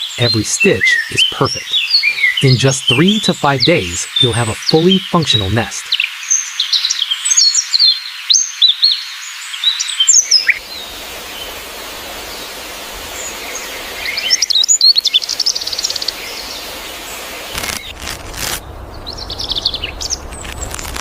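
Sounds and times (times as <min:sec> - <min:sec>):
outdoor hiss: 0:00.0 - 0:08.3, 0:09.1 - 0:21.0
bird trill: 0:00.0 - 0:09.0, 0:12.2 - 0:18.0, 0:18.6 - 0:21.0
small birds chirping: 0:00.0 - 0:21.0.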